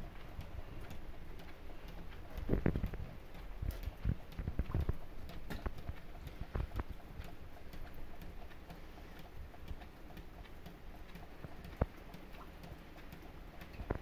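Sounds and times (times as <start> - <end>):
raindrop patter: 0.0 - 14.0.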